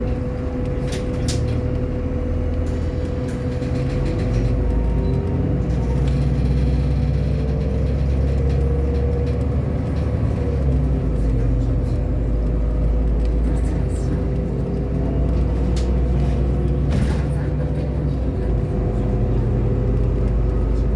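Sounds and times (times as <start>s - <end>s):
bus diesel engine rumble: 0.0s - 20.9s.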